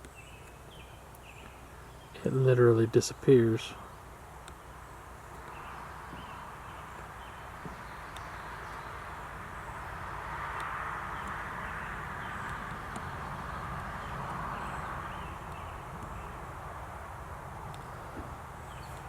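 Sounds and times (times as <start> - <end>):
steady rumble and hiss: 0.0 - 19.0.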